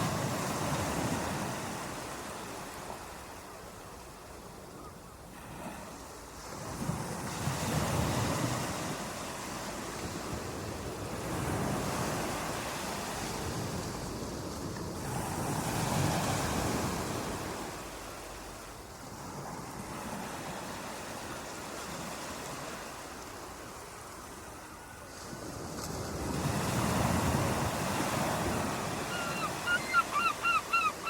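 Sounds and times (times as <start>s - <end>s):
waves breaking on shore: 0.0s - 31.0s.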